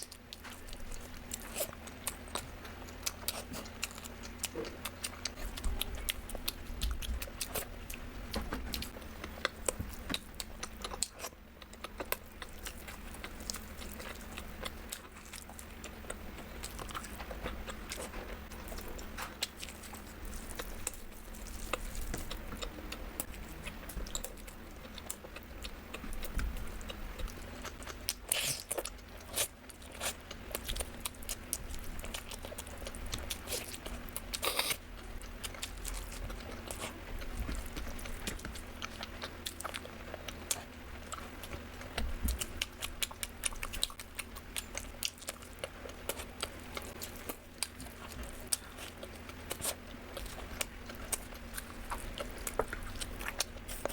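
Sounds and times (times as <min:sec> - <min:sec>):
wet chewing and crunching: 0:00.0 - 0:53.9.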